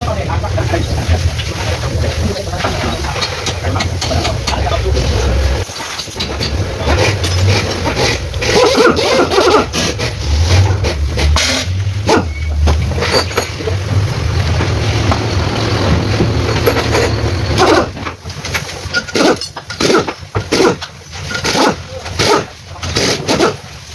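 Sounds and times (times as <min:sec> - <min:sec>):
engine knocking: 0:00.0 - 0:05.6, 0:06.2 - 0:22.0
diesel engine running: 0:00.0 - 0:23.0.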